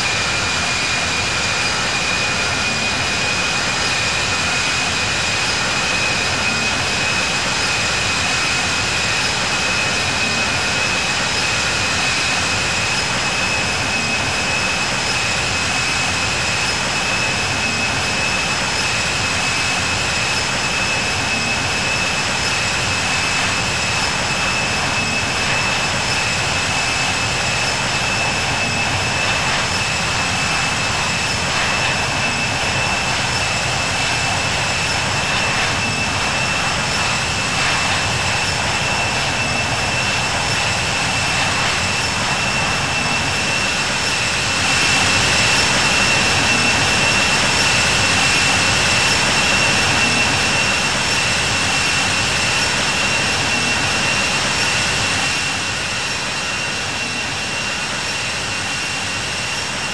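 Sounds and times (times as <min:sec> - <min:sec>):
jet engines heard from cabin: 0:00.0 - 0:59.9.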